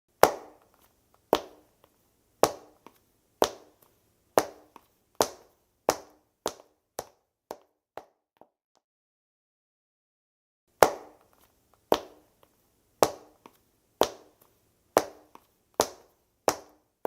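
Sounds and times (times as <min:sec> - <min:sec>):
dress shoe footsteps on hard floor: 0:00.2 - 0:08.5, 0:10.8 - 0:16.9.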